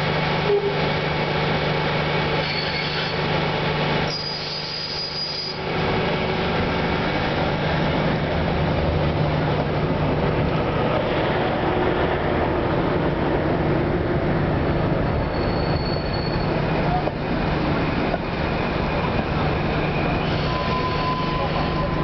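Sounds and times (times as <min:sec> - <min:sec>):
train diesel engine humming: 0:00.0 - 0:22.0.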